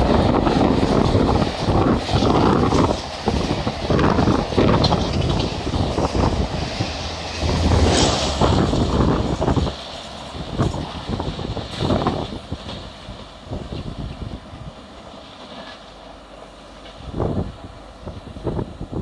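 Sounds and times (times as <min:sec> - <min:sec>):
train wheels clattering over rail joints: 0:00.0 - 0:17.5.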